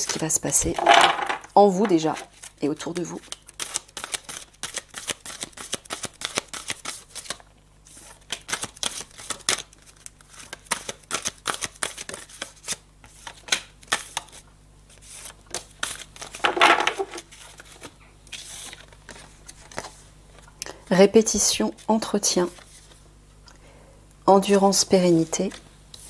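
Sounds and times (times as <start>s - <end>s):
cards being shuffled by hand: 0.1s - 20.6s, 21.6s - 23.0s.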